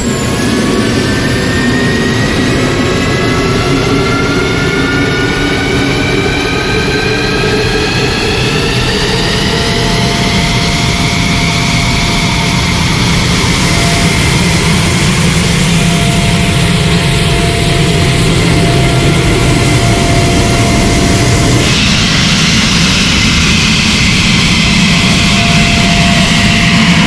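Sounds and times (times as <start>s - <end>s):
jet engine rumbling and whining: 0.0s - 27.0s.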